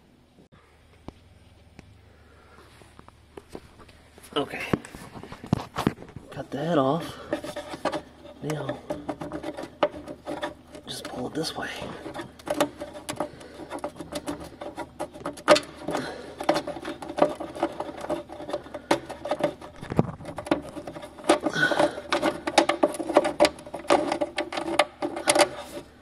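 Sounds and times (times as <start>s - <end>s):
trim clicking and creaking: 3.8s - 26.0s.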